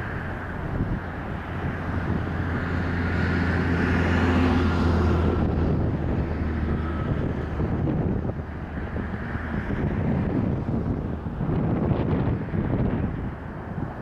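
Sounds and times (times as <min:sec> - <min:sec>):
jet engines rumbling with whine: 0:00.0 - 0:14.0
wind buffeting microphone: 0:00.0 - 0:14.0.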